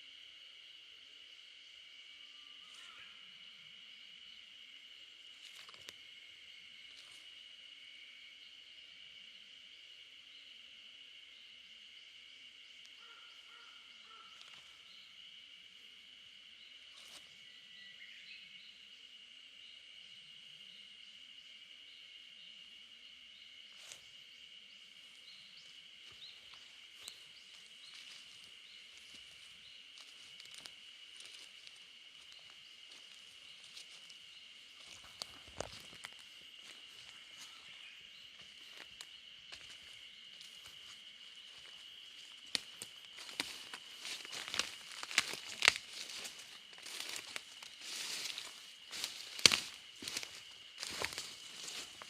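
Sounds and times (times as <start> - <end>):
high-pitched insect drone: 0.0 - 52.0.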